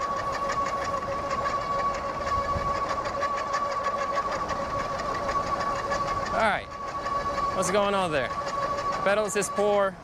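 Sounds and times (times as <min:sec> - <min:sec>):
electric motor whine: 0:00.0 - 0:10.0
quick even ticking: 0:00.0 - 0:10.0.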